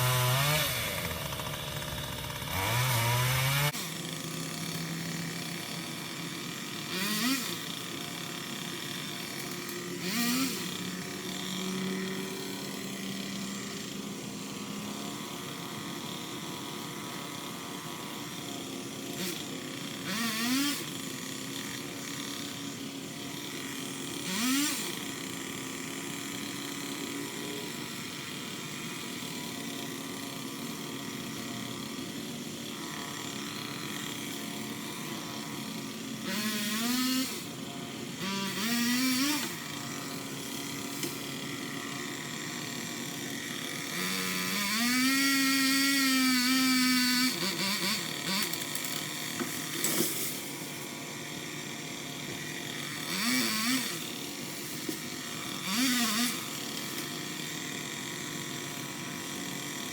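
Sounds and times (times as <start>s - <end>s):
electric pole saw spinning up: 0.0s - 59.9s.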